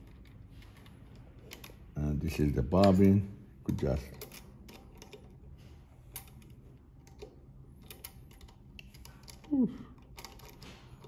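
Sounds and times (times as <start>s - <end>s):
small metal parts clicking: 0.0s - 1.9s, 2.8s - 11.0s.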